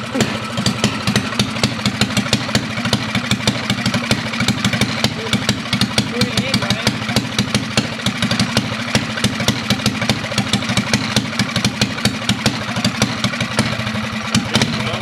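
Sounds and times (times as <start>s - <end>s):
small engine uneven idle: 0.0s - 15.0s.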